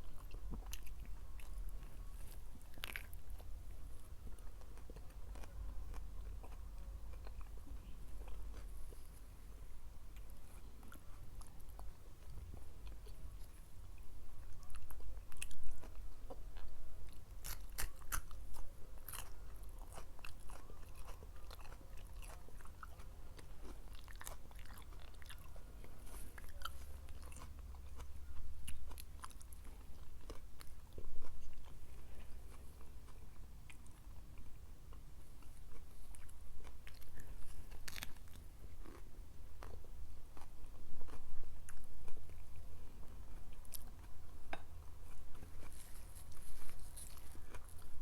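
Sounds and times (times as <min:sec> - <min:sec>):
person chewing crunchy food: 0:00.0 - 0:48.0.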